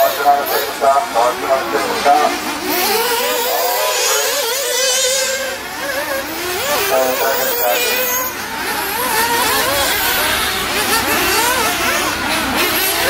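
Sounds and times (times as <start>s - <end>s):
small engines whining: 0.0s - 13.0s.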